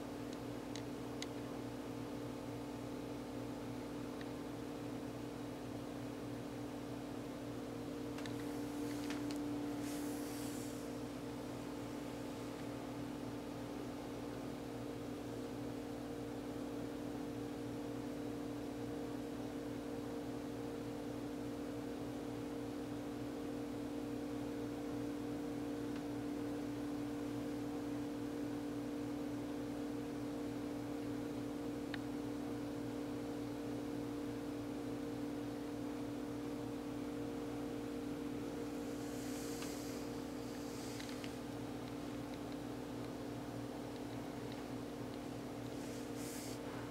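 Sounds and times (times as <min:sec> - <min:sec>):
steady electrical hum: 0:00.0 - 0:46.9.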